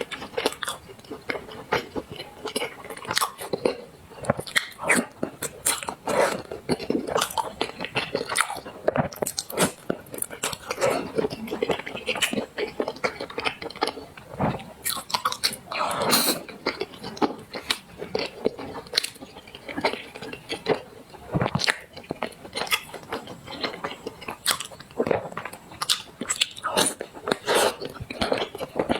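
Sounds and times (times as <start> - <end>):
chewing and crunching food: 0.0 - 28.9.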